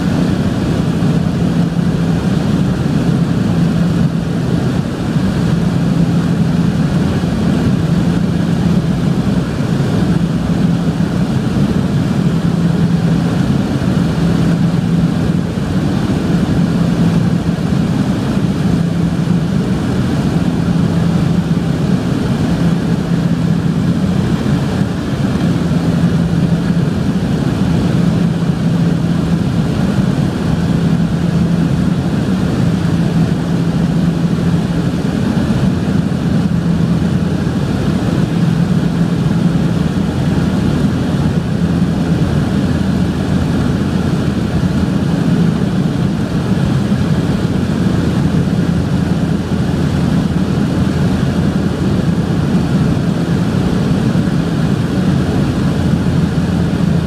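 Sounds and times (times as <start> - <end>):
aircraft cabin engine drone: 0.0 - 57.0
low propeller hum: 0.0 - 57.0.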